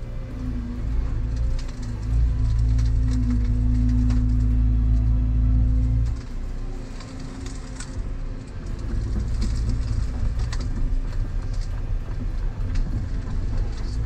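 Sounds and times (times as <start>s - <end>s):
excavator diesel engine running: 0.0s - 14.0s
clicks and cracks: 1.0s - 14.0s.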